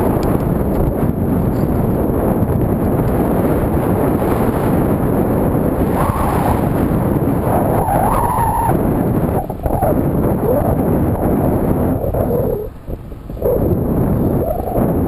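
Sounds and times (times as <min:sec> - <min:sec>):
tyre noise on road: 0:00.0 - 0:15.0
wind buffeting microphone: 0:00.0 - 0:15.0.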